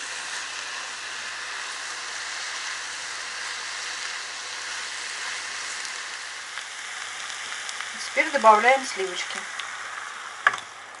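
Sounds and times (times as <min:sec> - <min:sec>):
food sizzling in frying pans: 0:00.0 - 0:11.0.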